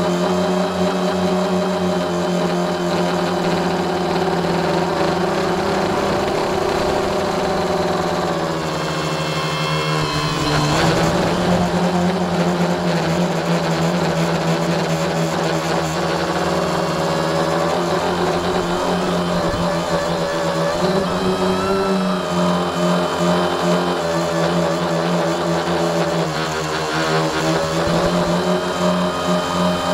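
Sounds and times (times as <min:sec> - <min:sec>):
drone motors and propellers whirring: 0:00.0 - 0:29.9.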